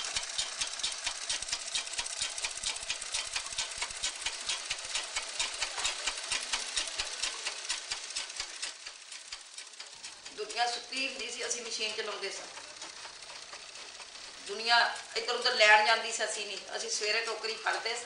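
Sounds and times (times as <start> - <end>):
treadle sewing machine clicking: 0.0 - 18.0.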